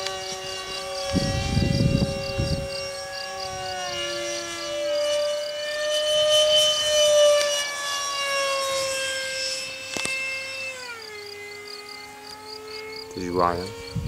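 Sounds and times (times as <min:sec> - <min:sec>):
jet engine whine overhead: 0:00.0 - 0:14.0.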